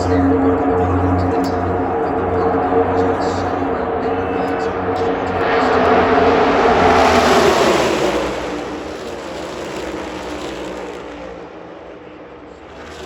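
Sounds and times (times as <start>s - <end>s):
race cars passing at full throttle: 0.0s - 13.0s.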